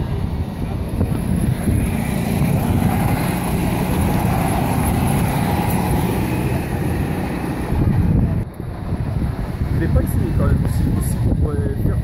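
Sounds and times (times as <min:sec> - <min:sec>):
go-kart engines passing: 0:00.0 - 0:12.0
steady low rumble: 0:00.0 - 0:12.0.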